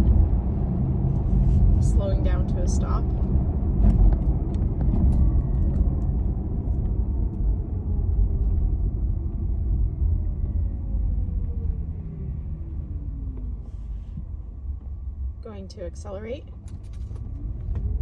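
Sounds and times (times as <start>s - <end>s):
road rumble inside car: 0.0s - 18.0s.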